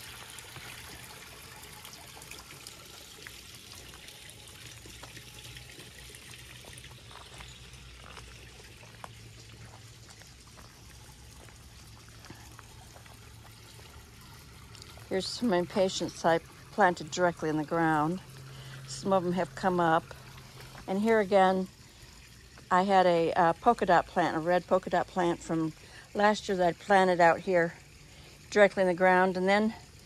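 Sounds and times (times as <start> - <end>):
water trickling: 0.0 - 30.0.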